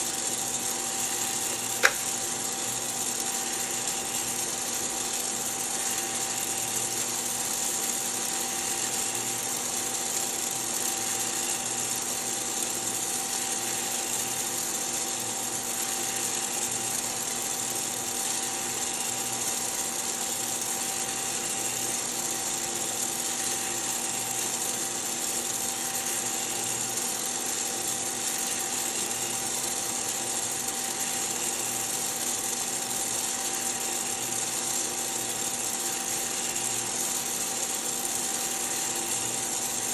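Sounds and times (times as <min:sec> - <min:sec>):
coffee roaster whirring hum: 0:00.0 - 0:39.9.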